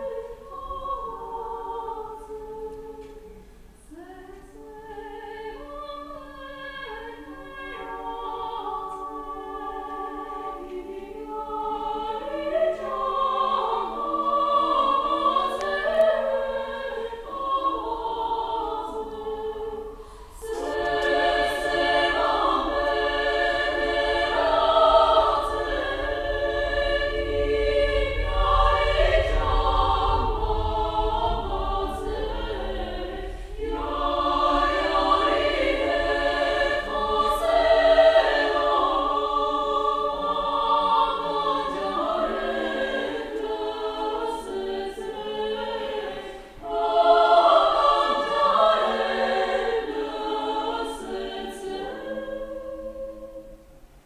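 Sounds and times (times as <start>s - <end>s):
women's choir singing: 0.0s - 53.8s.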